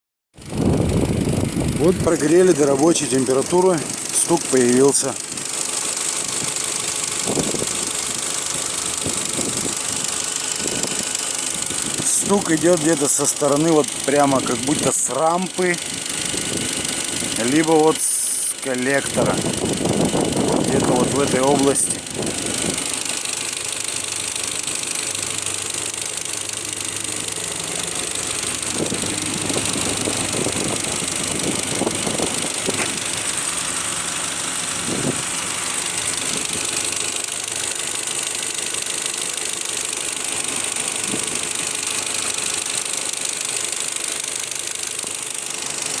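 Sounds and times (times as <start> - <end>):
car engine idling with knock: 0.4 - 46.0.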